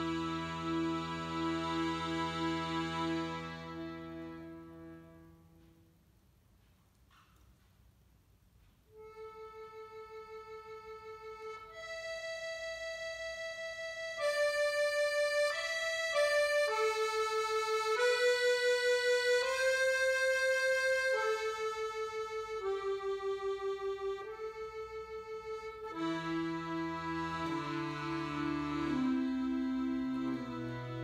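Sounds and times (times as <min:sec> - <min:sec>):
accordion playing slow melody: 0:00.0 - 0:05.8, 0:08.9 - 0:31.0.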